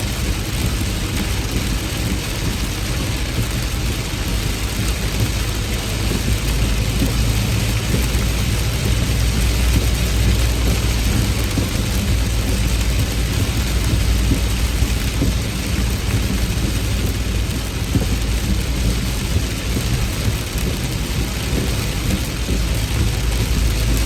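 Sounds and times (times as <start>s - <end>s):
heavy rain falling: 0.0s - 24.0s
thunder rumbling: 0.0s - 24.0s.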